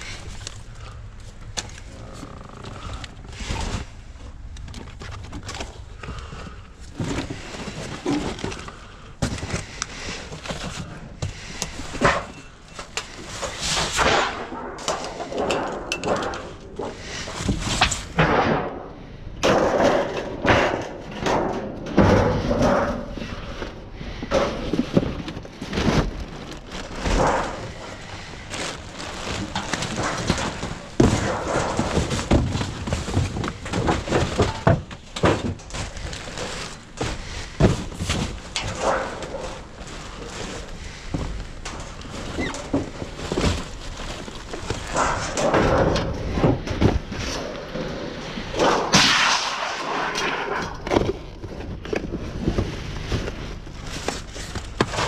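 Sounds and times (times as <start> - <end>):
cardboard boxes shifted: 0.0 - 18.7, 19.4 - 55.0
thumps and clatters of debris: 0.0 - 55.0.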